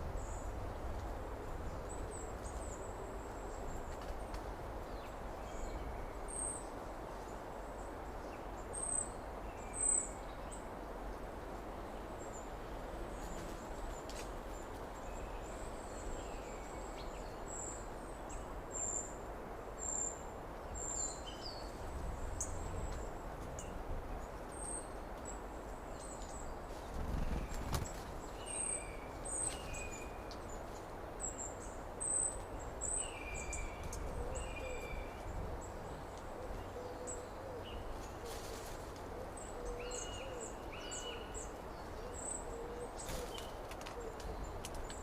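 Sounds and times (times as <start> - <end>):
low rushing background hiss: 0.0 - 45.0.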